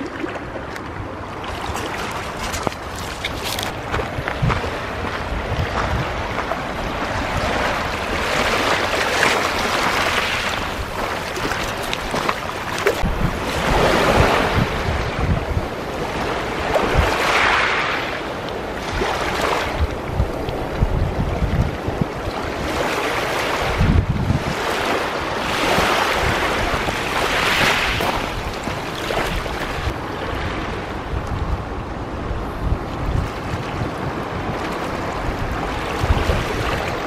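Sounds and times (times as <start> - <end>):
waves lapping on pebbles: 0.0 - 20.8, 21.8 - 30.9
wind buffeting microphone: 0.0 - 37.0.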